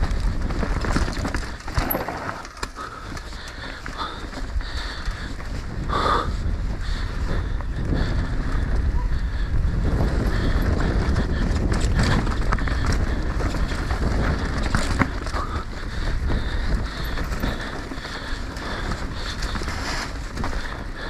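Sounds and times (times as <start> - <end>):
wind buffeting microphone: 0.0 - 2.0, 2.8 - 21.0
bike rattling and knocking: 0.0 - 21.0
tyres rumbling on dirt: 0.0 - 21.0.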